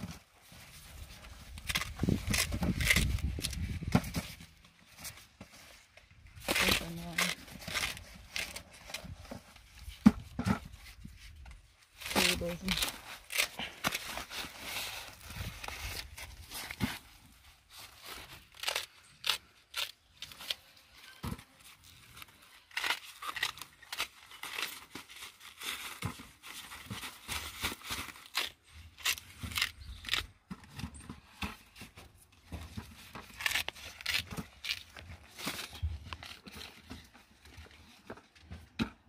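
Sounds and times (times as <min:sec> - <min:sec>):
corn husks and sack rustling: 0:00.0 - 0:32.0.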